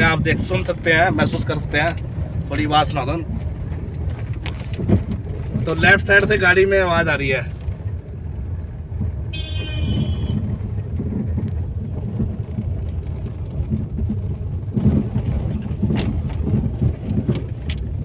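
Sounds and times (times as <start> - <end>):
road and tyre rumble: 0.0 - 18.0.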